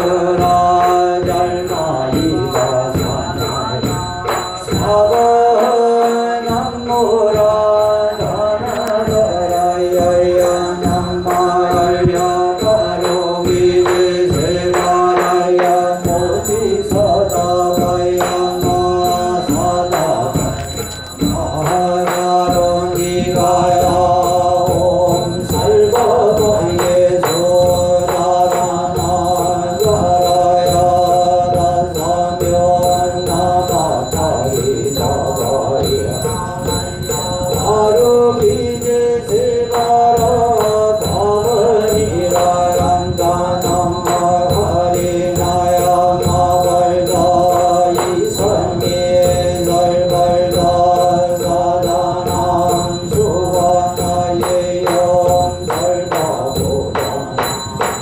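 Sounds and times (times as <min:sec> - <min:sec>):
group chanting: 0:00.0 - 0:58.0
percussion strikes: 0:00.0 - 0:58.0.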